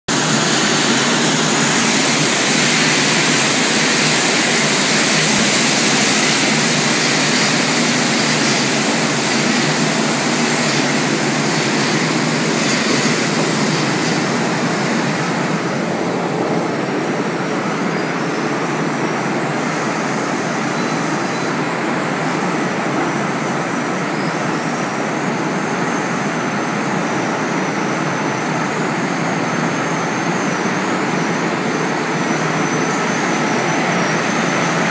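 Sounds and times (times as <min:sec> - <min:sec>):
conveyor machinery running: 0:00.1 - 0:34.9.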